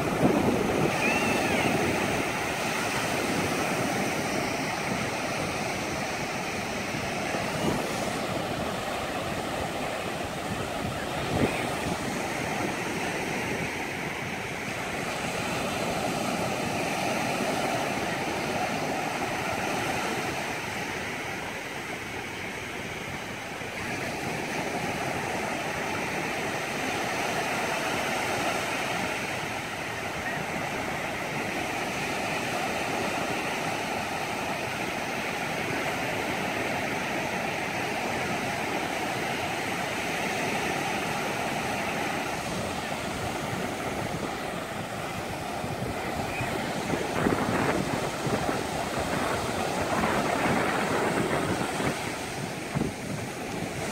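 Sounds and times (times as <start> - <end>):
small waves breaking on sand: 0.0 - 53.9.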